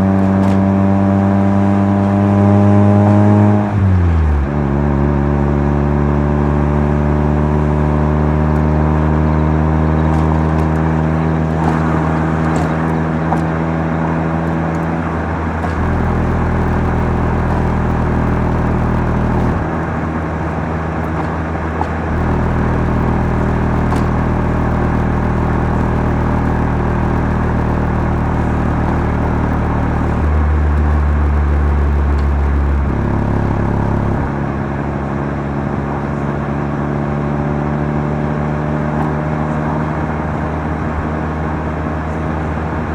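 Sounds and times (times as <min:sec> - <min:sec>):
rotary engine exhaust drone: 0:00.0 - 0:42.9.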